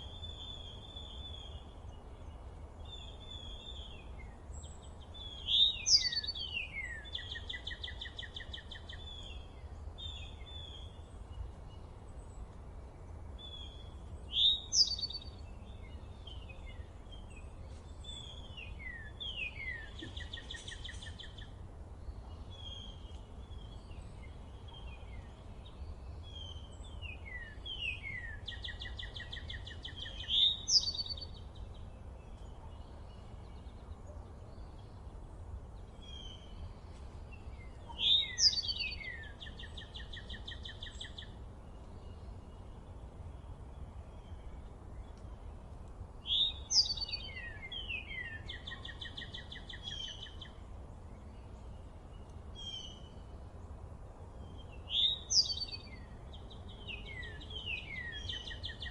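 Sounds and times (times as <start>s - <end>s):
low outdoor hiss and rumble: 0.0s - 58.9s
songbirds singing: 0.0s - 58.9s.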